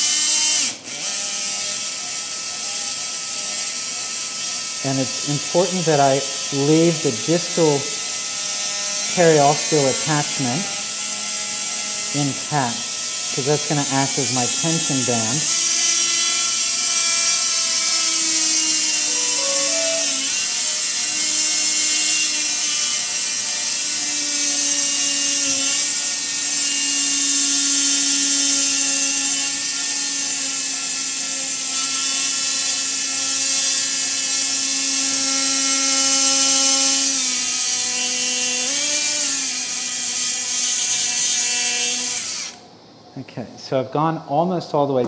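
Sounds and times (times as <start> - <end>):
bone saw whining: 0.0 - 42.6.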